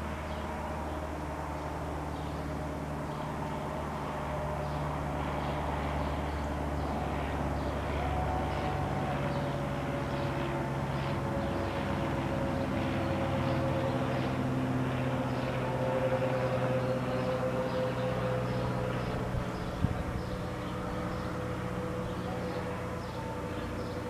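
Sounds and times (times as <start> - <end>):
propeller plane passing overhead: 0.0 - 24.0.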